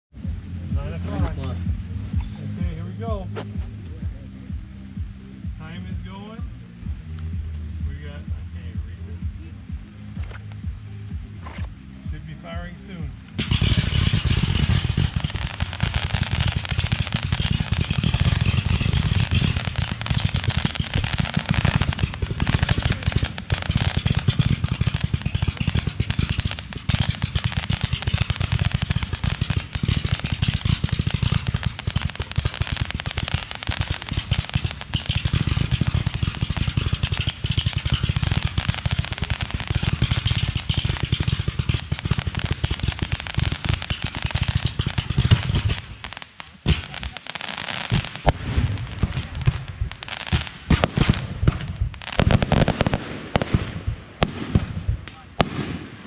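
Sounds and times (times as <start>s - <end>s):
fireworks bangs and crackles: 7.3s - 56.0s.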